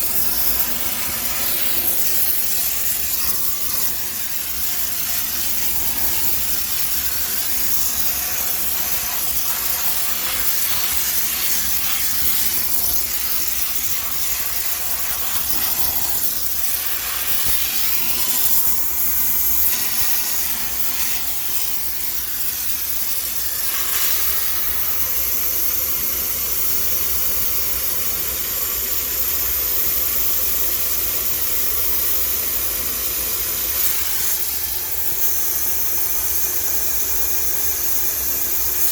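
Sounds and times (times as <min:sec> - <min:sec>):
steam cleaner hissing: 0:00.0 - 0:38.9.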